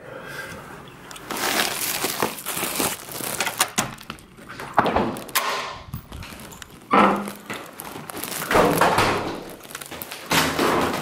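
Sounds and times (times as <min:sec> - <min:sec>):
rustling handling noise: 0:01.1 - 0:11.0.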